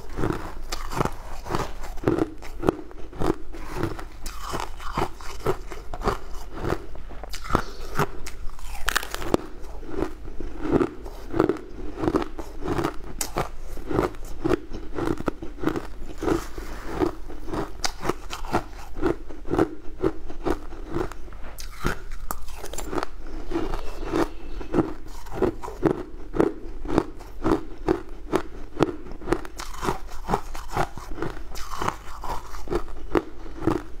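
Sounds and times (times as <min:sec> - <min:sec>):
chewing crushed ice: 0:00.0 - 0:34.0.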